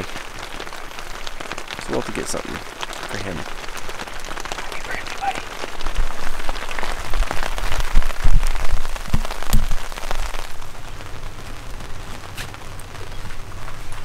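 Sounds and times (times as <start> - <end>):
rain on a tent: 0.0 - 14.0.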